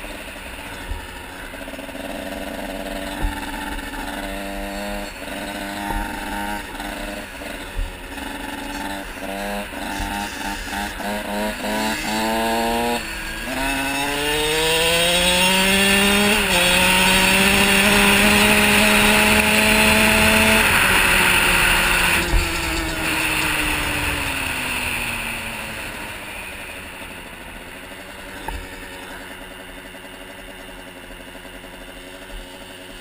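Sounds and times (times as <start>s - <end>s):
motocross engine revving: 0.0s - 33.0s.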